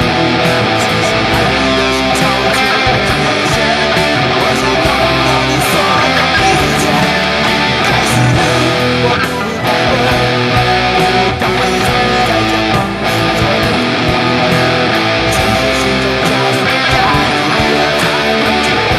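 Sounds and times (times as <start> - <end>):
bass line: 0.0 - 18.9
strummed and plucked guitar: 0.0 - 18.9.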